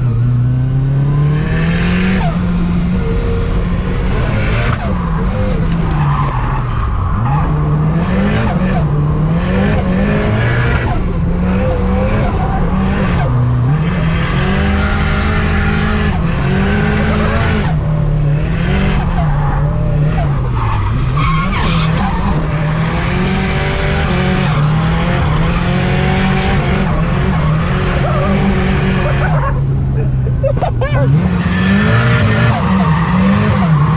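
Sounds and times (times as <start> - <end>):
car engine revving hard: 0.0 - 30.0, 30.9 - 33.9
tyres skidding: 0.0 - 33.9.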